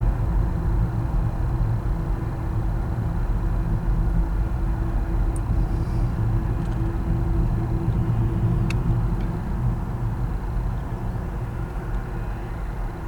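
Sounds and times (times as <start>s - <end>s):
distant engines rumbling: 0.0s - 13.0s.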